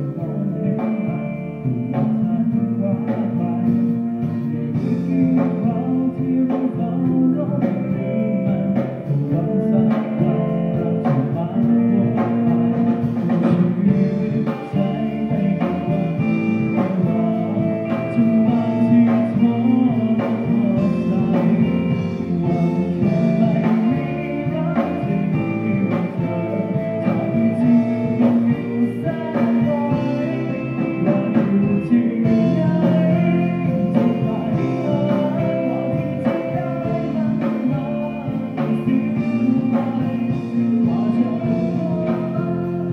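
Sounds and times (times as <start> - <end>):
bass guitar: 0.0 - 42.9
drums steady beat: 0.0 - 42.9
electric guitars: 0.0 - 42.9
man singing: 0.0 - 42.9.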